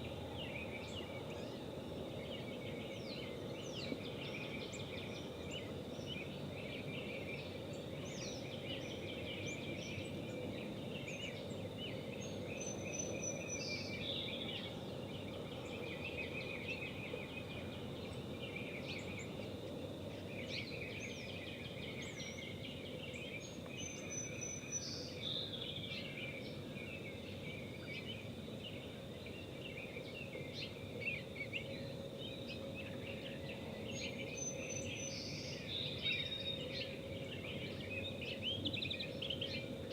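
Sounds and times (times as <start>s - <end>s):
birds chirping and trilling: 0.0s - 39.9s
outdoor background noise: 0.0s - 39.9s
steady low hum: 0.0s - 39.9s.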